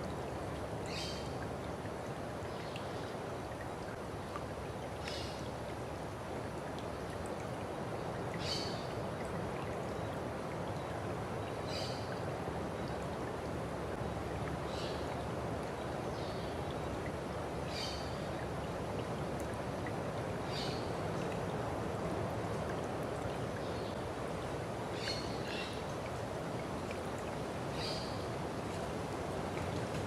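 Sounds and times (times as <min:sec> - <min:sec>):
stream flowing: 0:00.0 - 0:30.0.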